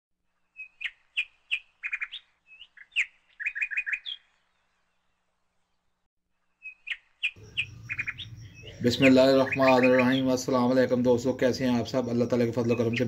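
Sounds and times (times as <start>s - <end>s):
bird chirping and trilling: 0.4s - 13.0s.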